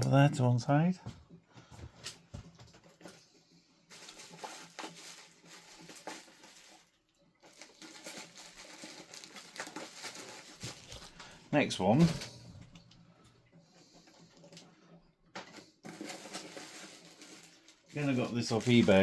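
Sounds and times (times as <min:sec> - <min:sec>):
packaging rustling: 0:02.0 - 0:19.0.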